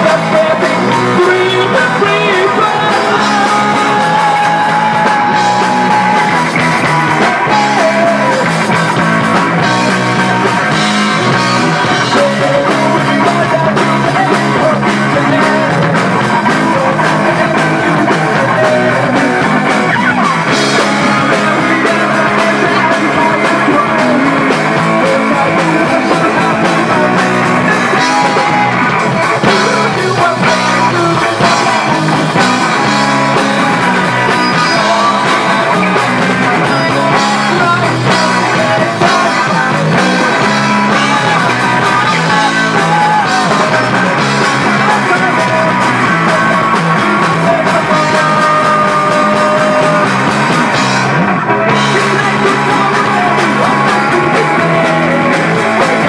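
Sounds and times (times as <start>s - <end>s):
bass guitar: 0.0s - 56.0s
drum kit: 0.0s - 56.0s
electric guitar: 0.0s - 56.0s
man singing: 0.0s - 56.0s.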